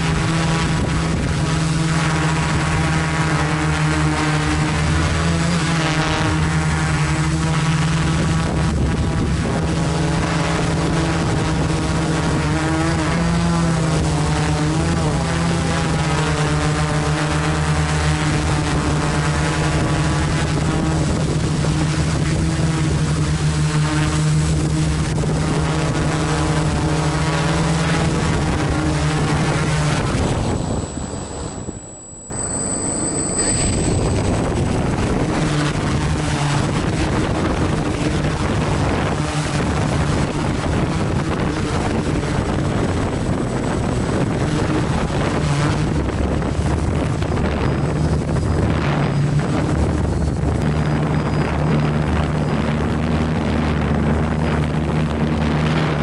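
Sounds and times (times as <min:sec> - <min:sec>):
drone motors humming: 0:00.0 - 0:56.0.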